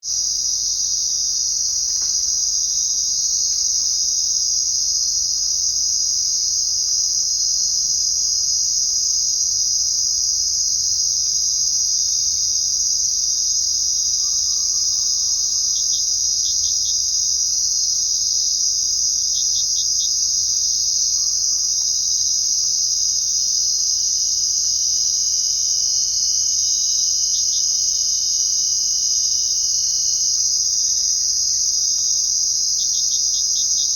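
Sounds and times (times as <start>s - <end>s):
crickets chirping: 0.0s - 33.9s
high insect trills: 0.0s - 33.9s.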